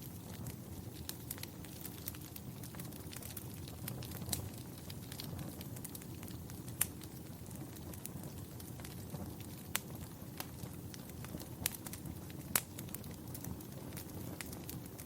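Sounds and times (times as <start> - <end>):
fire crackling with sharp pops: 0.0 - 15.0
low rumble of flames: 0.0 - 15.0.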